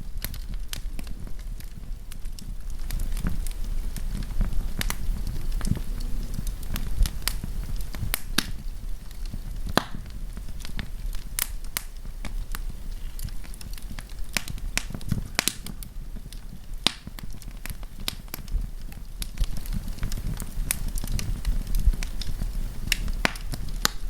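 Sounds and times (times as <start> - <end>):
campfire crackling: 0.0 - 24.0
low rumble: 0.0 - 24.0.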